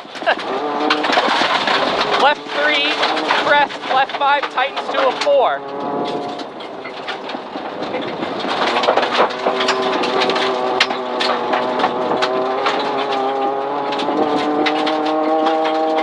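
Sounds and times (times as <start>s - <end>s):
car engine revving: 0.0s - 16.0s
gravel crunching under tyres: 0.0s - 16.0s.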